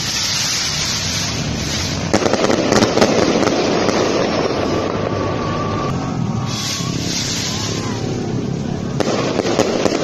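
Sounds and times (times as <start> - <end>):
rushing noise: 0.0 - 10.0
sharp firework cracks: 0.0 - 10.0
sky rockets bursting: 0.0 - 10.0.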